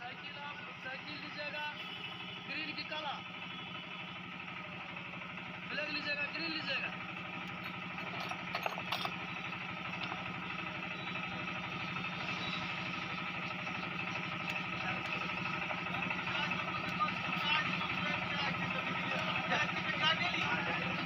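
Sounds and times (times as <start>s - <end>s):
motor running steadily: 0.1s - 21.0s.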